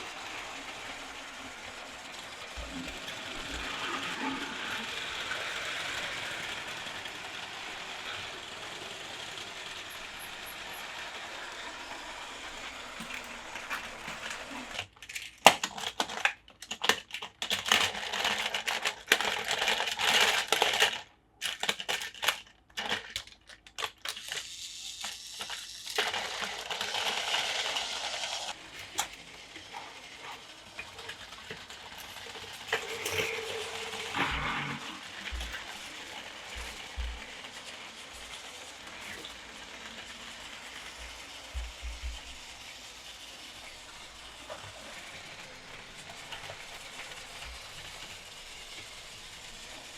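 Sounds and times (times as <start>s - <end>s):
plastic toy track parts clicking: 0.0s - 49.9s.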